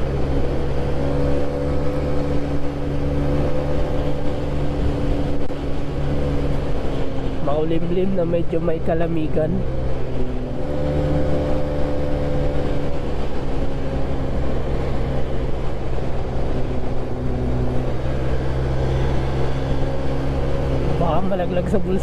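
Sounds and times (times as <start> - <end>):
scooter engine hum: 0.0 - 22.0
wind rush on microphone: 0.0 - 22.0.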